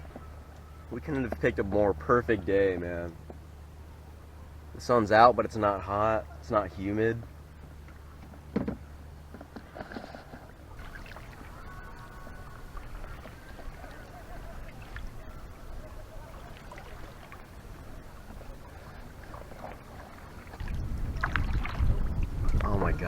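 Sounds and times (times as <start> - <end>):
paddle splashing water: 0.0 - 23.0.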